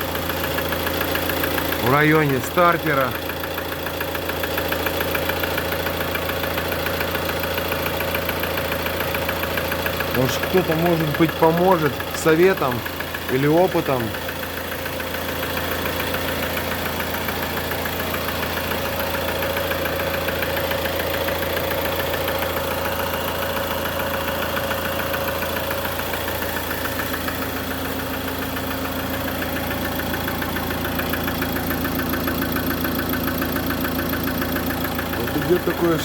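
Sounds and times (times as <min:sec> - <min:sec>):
diesel engine idling: 0:00.0 - 0:36.0
fast repetitive engine knock: 0:00.0 - 0:36.0.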